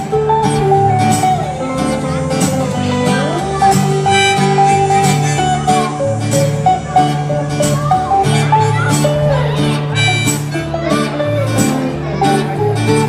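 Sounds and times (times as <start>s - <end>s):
live country band on guitars: 0.0s - 13.0s.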